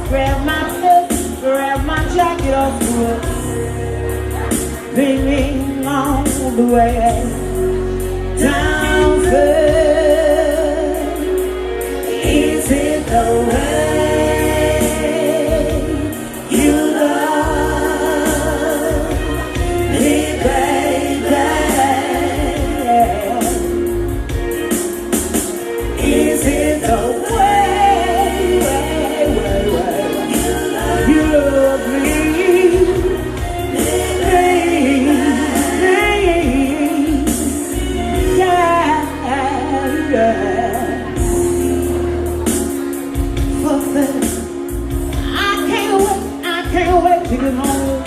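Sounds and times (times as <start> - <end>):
live band playing: 0.0 - 48.0.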